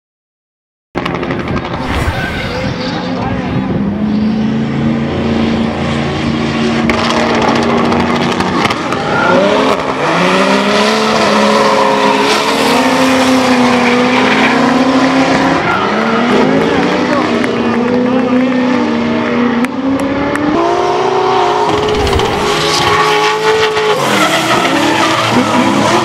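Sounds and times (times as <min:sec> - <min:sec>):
car engines at high revs: 0:02.7 - 0:26.0.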